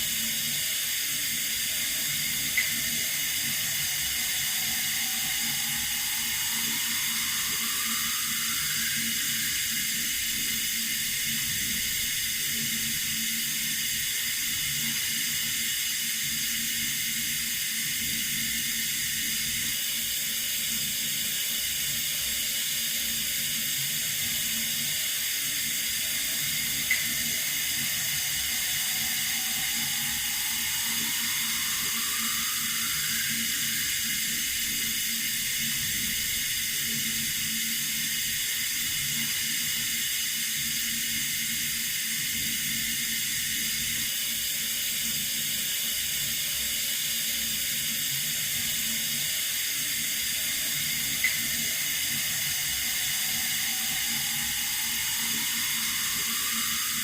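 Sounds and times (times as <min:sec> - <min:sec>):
running water hiss: 0:00.0 - 0:57.0.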